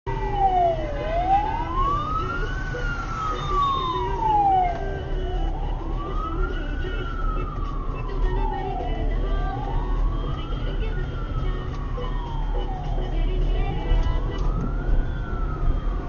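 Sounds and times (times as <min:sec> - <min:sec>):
emergency vehicle siren wailing: 0:00.1 - 0:16.0
road noise rumble: 0:00.1 - 0:16.0.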